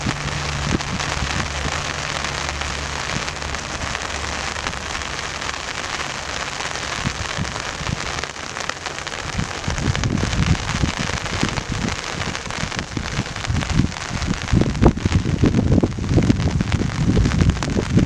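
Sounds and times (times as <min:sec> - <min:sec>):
steady rain falling: 0:00.0 - 0:18.0
wind buffeting microphone: 0:00.0 - 0:18.0.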